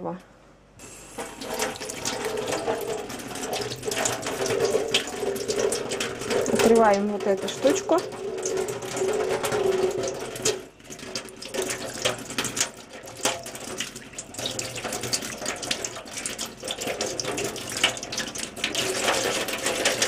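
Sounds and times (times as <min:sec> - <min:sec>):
tap water splashing into sink: 0:01.1 - 0:20.0.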